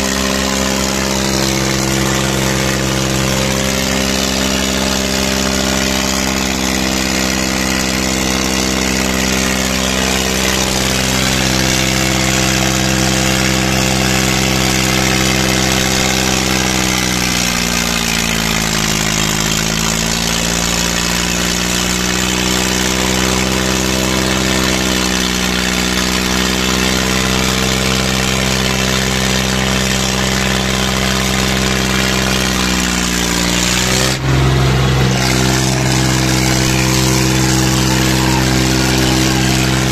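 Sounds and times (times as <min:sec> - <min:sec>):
tractor engines under load: 0:00.0 - 0:39.9.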